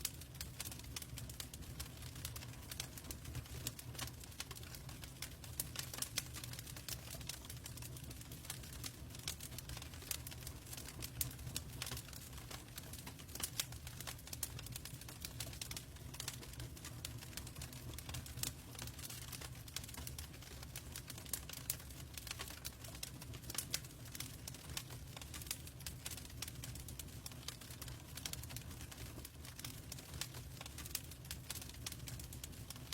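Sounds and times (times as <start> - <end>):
log fire crackling: 0.0 - 32.9.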